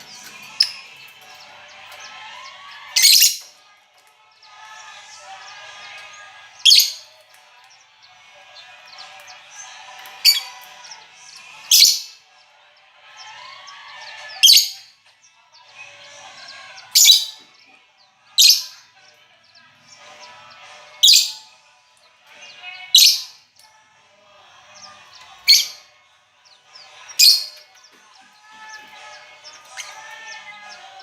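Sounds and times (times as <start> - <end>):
lovebirds shrieking: 0.0 - 3.6, 4.3 - 7.3, 8.0 - 12.3, 13.0 - 21.5, 22.2 - 23.5, 24.6 - 31.0
birds twittering chatter: 0.0 - 31.0.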